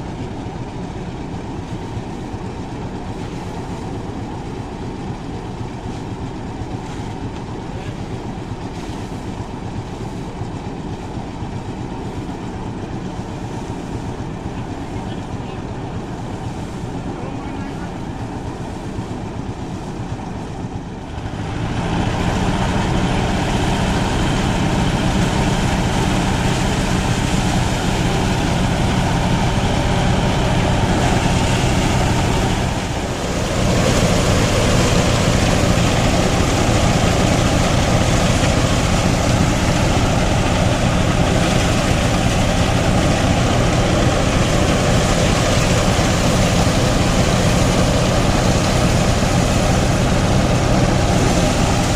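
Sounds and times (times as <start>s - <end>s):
threshing machine running: 0.0s - 51.9s.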